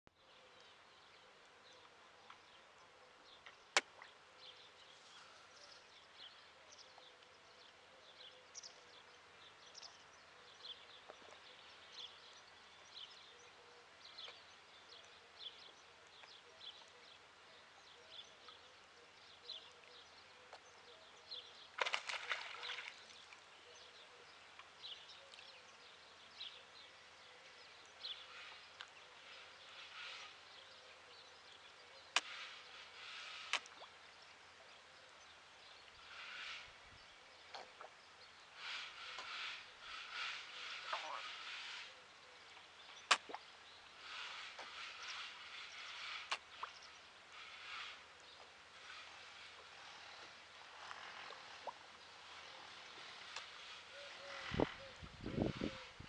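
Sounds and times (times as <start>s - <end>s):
small birds chirping: 0.2s - 56.0s.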